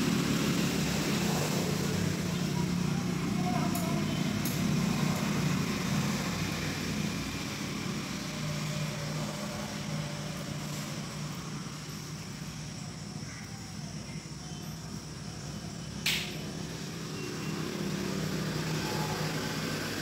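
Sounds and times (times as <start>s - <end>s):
faint background noise: 0.0s - 20.0s.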